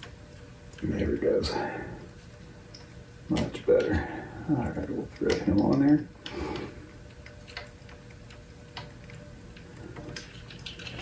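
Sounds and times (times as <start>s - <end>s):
faint fan hum: 0.0s - 11.0s.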